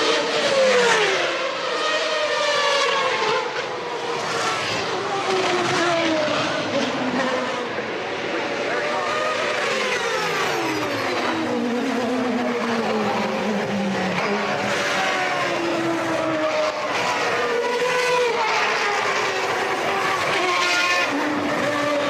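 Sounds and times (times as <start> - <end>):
racing car engines screaming past: 0.0 - 22.0.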